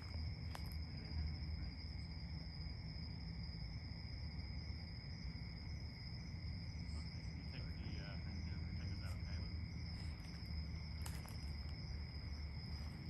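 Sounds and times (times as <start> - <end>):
low steady rumble: 0.0 - 13.0
night insects trilling: 0.0 - 13.0.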